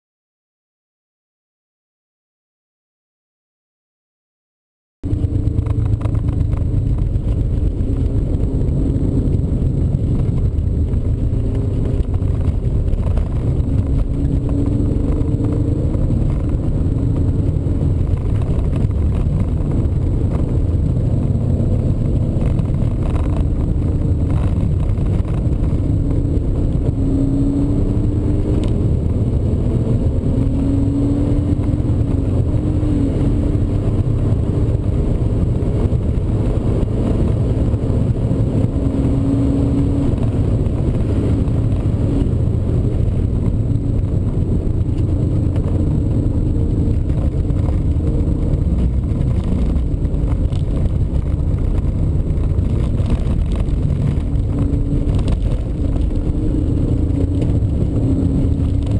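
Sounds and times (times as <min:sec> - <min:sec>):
car engine revving: 0:05.0 - 0:58.9
heavy low rumble: 0:05.0 - 0:58.9.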